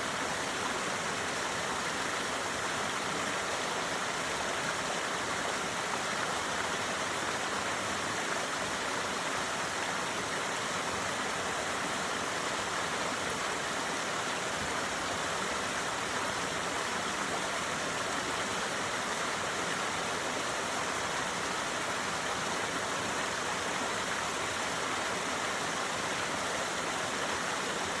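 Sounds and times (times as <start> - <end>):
small waterfall splashing: 0.0 - 28.0.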